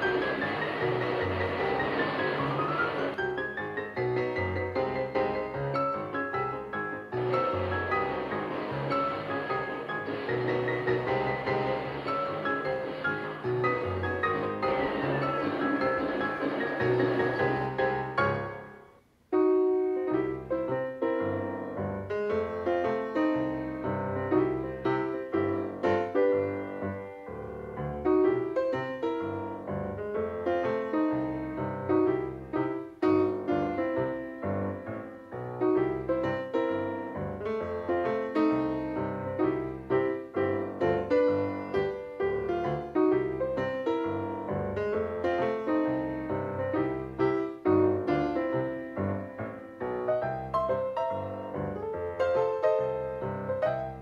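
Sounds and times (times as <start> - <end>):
silent-film piano music: 0.0 - 54.0.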